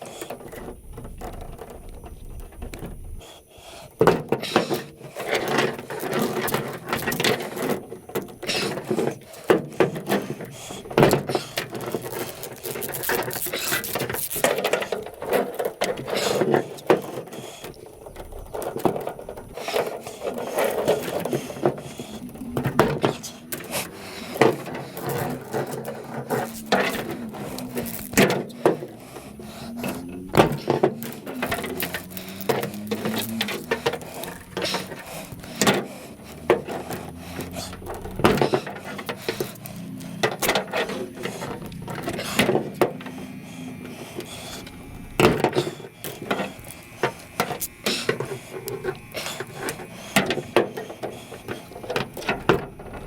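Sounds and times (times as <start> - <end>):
scrap metal knocking and clanking: 4.0 - 53.0.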